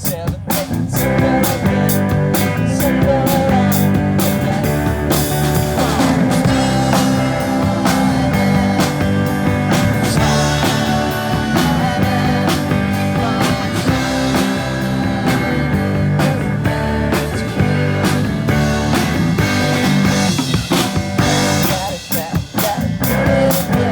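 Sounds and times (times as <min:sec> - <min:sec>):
rock music with guitar and drums: 0:00.0 - 0:23.9.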